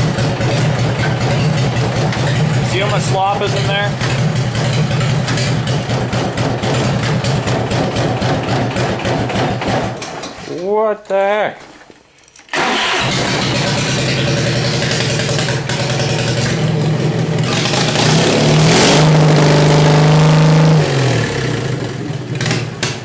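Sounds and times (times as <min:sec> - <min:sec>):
tractor engine starting and running: 0:00.0 - 0:10.4, 0:12.1 - 0:23.0.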